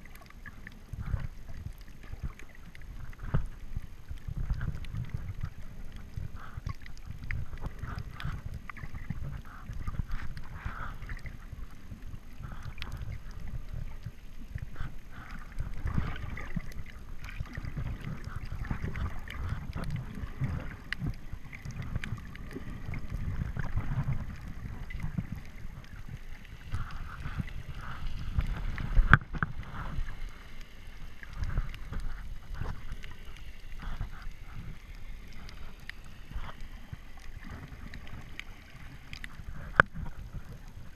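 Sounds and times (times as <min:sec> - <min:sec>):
faint clicks and gurgles: 0:00.0 - 0:40.9
underwater churning rumble: 0:00.0 - 0:40.9.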